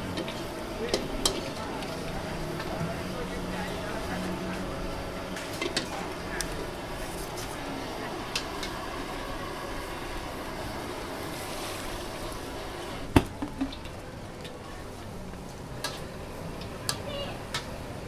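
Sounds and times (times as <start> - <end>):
hot oil sizzling: 0.0 - 14.5
gas wok burner roaring: 0.0 - 18.0.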